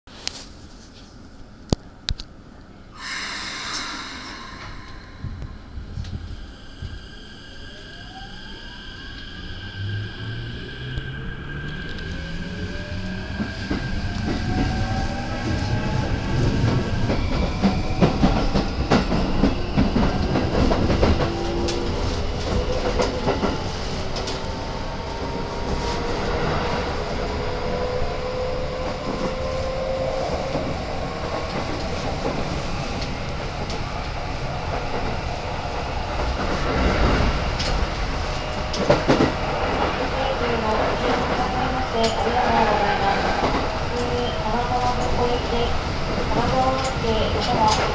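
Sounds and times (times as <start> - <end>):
train wheels rumbling: 3.0 - 47.9.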